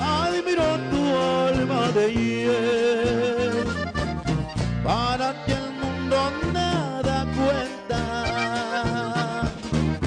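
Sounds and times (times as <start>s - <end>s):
button accordion melody: 0.0s - 10.0s
repeating bass note: 0.0s - 10.0s.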